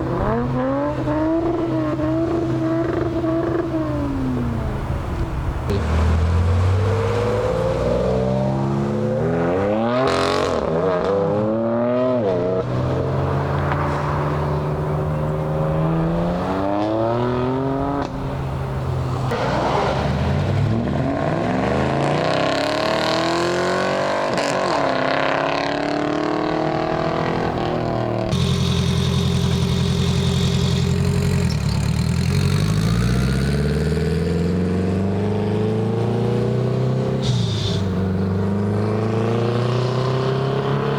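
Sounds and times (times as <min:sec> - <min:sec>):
car engines revving and accelerating: 0:00.0 - 0:40.9.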